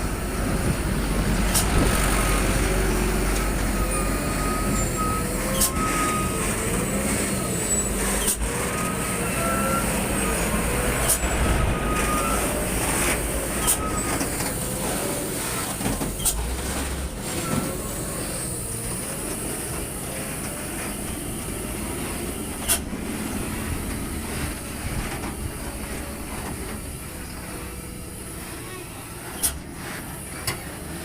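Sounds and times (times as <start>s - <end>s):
truck engine rumble: 0.0s - 31.0s.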